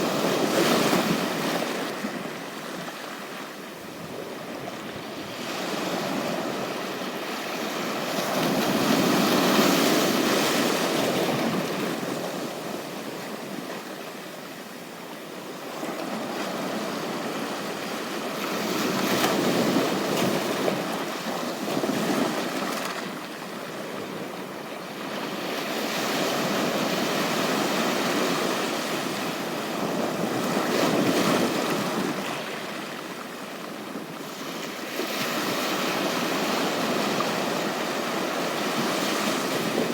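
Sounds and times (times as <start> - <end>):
ocean surf washing on beach: 0.0 - 39.9.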